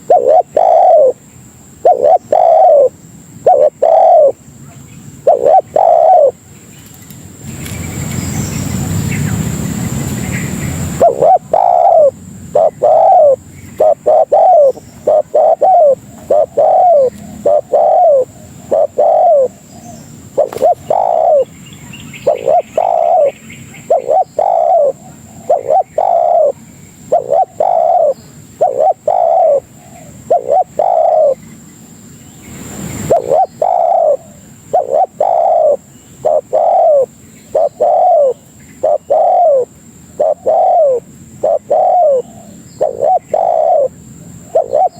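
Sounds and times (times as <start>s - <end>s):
dove cooing: 0.0s - 6.4s, 10.5s - 21.5s, 22.1s - 31.4s, 32.9s - 44.9s.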